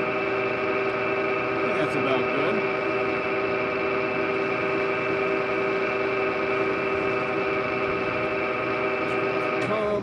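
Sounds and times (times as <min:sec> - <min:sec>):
pump humming: 0:00.0 - 0:10.0.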